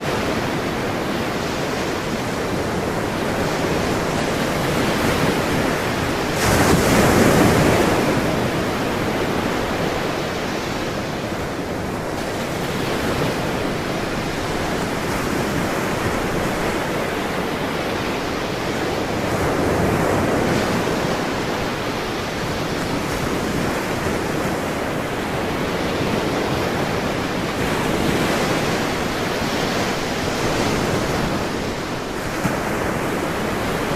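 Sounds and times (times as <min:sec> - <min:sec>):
waves washing onto shore: 0:00.0 - 0:33.9.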